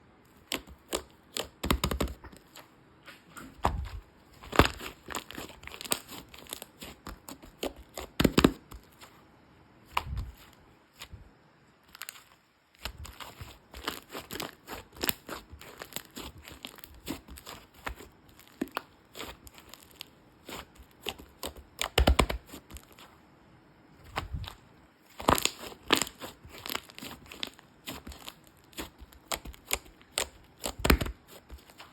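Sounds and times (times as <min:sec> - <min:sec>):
slime crackling and popping: 0:00.4 - 0:02.6, 0:03.6 - 0:09.1, 0:11.9 - 0:23.1, 0:24.0 - 0:31.9.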